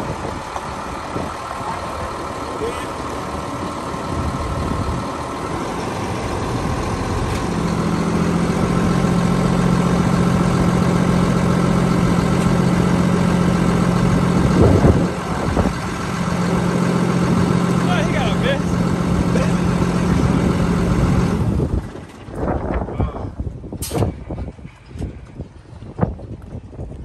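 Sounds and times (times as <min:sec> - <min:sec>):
deep steady hum: 0:00.0 - 0:26.0
truck engine idling: 0:00.0 - 0:26.0.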